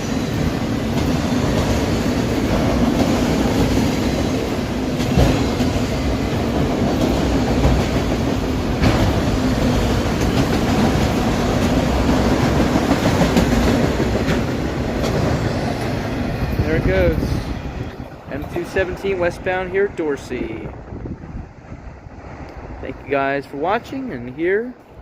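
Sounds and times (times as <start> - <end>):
wheels clacking over rail joints: 0.0 - 20.3.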